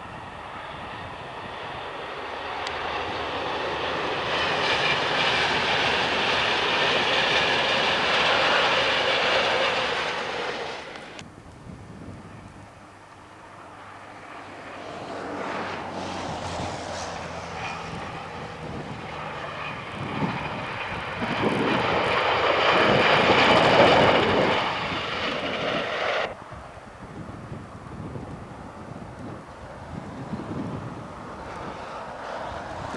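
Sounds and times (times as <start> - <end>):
diesel train engine drone: 0.0 - 11.3, 12.5 - 32.9
wind-like noise: 0.0 - 32.9.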